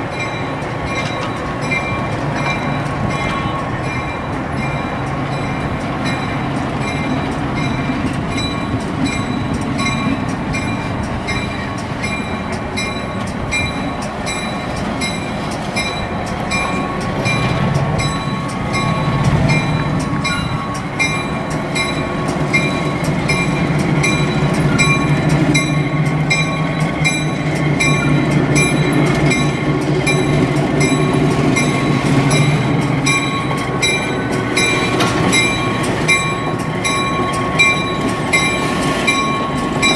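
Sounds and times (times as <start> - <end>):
diesel locomotive engine running: 0.0 - 39.9
locomotive bell ringing: 0.0 - 39.9.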